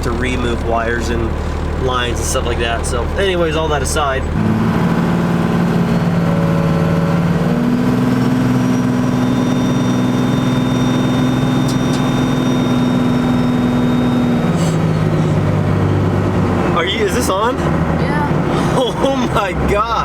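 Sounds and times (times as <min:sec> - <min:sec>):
diesel truck engine: 0:00.0 - 0:20.0.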